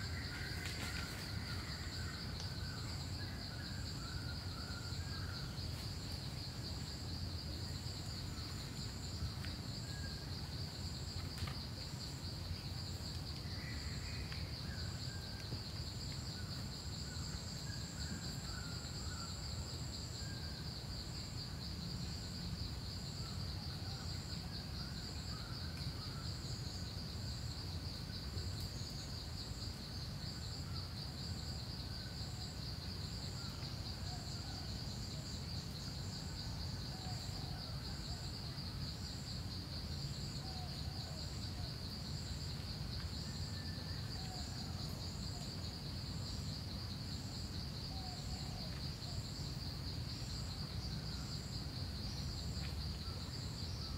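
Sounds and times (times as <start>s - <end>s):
insects trilling: 0.0s - 53.9s.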